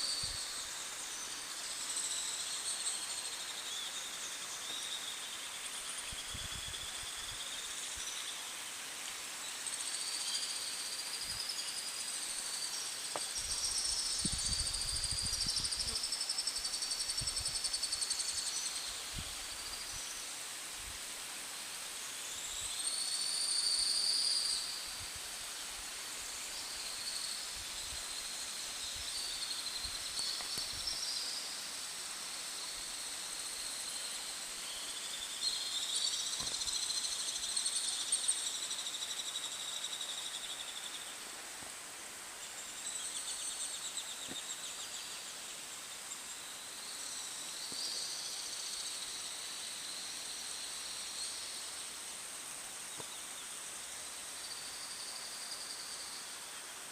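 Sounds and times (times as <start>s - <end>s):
insects chirring: 0.0s - 56.9s
steady background hiss: 0.0s - 56.9s.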